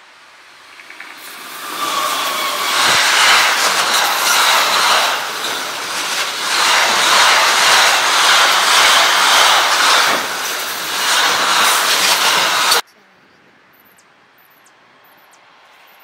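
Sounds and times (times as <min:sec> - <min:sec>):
freight train wheels on rail: 0:00.0 - 0:12.9.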